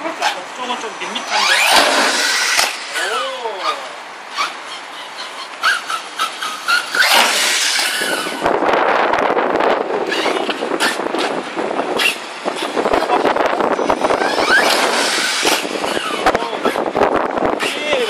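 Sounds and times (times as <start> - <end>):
wind buffeting microphone: 0.4 - 18.0.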